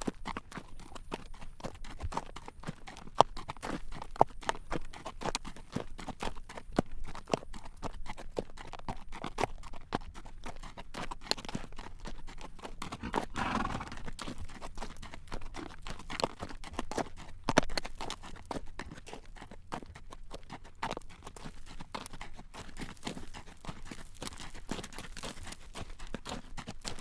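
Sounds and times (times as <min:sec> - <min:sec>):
horse hooves clip-clopping on road: 0:00.0 - 0:27.0.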